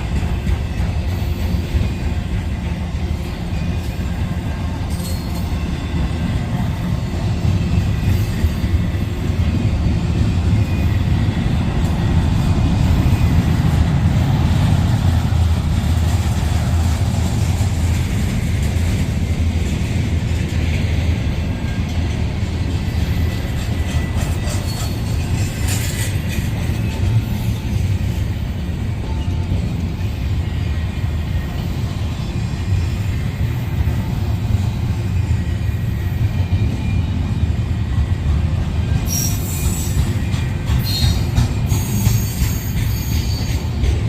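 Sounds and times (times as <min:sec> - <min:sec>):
train rumbling past: 0:00.0 - 0:44.0.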